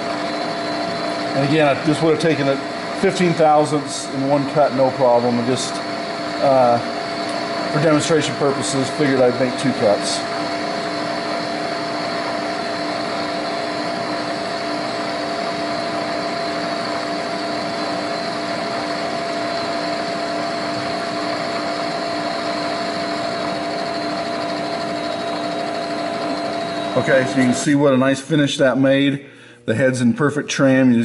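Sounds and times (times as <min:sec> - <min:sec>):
milling machine whirring: 0:00.0 - 0:29.1.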